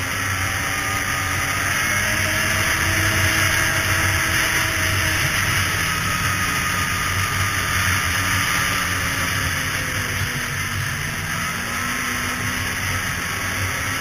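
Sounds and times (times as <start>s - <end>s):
snowmobile engine drone: 0.0s - 14.0s
track noise: 0.0s - 14.0s.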